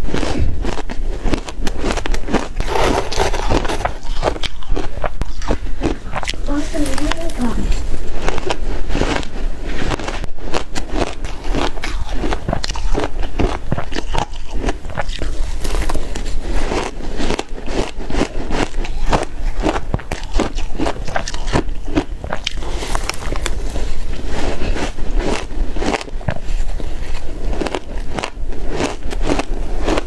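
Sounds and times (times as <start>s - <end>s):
ice being chewed: 0.0s - 30.0s.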